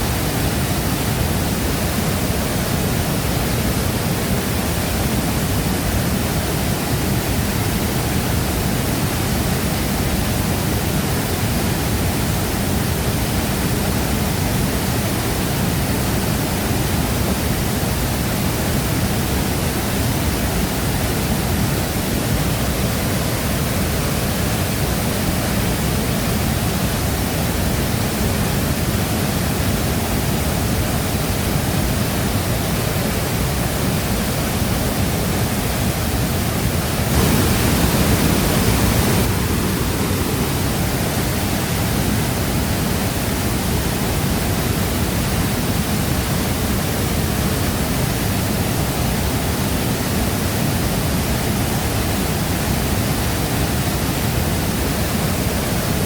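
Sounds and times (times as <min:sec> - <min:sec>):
waterfall crashing into pool: 0:00.0 - 0:56.0.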